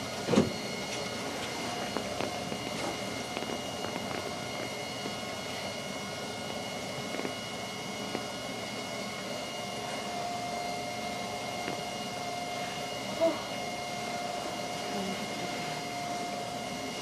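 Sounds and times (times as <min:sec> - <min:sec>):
faint high whines: 0:00.0 - 0:17.0.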